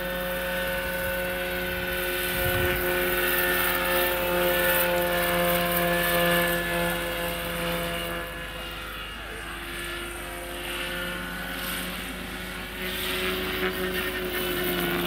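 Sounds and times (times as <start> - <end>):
model helicopter motor whine: 0.0 - 15.0
rotor blades swishing: 0.4 - 15.0.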